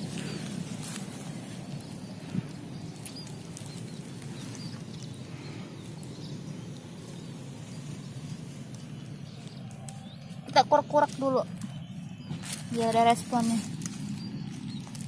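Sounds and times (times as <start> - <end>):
faint bird chirps: 0.0 - 15.0
low outdoor rumble: 0.0 - 15.0.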